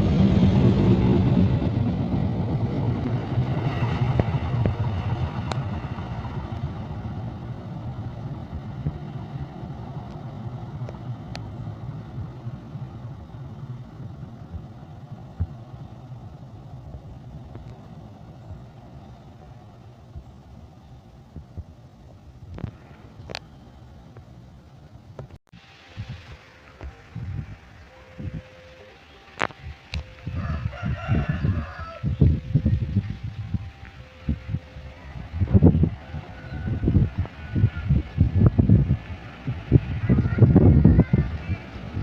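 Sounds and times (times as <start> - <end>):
diesel locomotive engine rumbling: 0.0 - 42.0.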